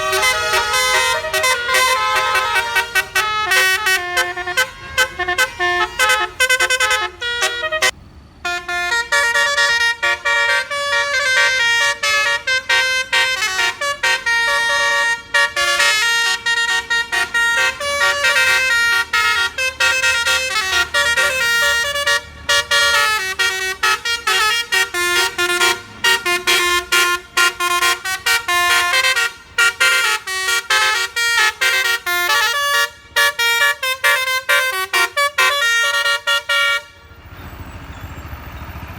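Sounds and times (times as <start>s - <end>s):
musical air horn tune: 0.0s - 37.2s.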